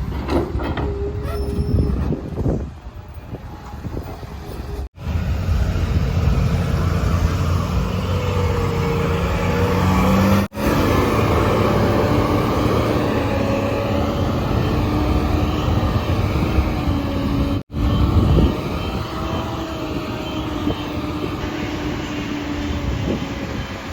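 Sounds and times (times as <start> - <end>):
diesel engine running: 3.4 - 23.9.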